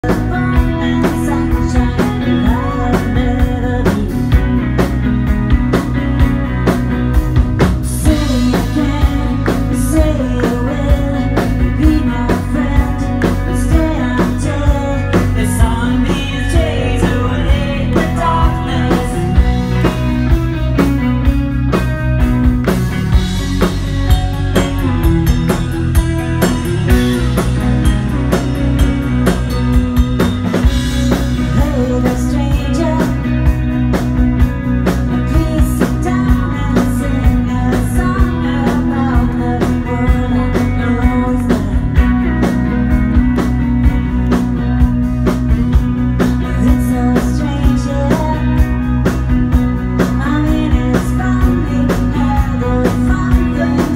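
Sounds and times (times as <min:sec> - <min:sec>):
bass: 0:00.0 - 0:53.9
drum kit beat: 0:00.0 - 0:53.9
electric guitar: 0:00.0 - 0:53.9.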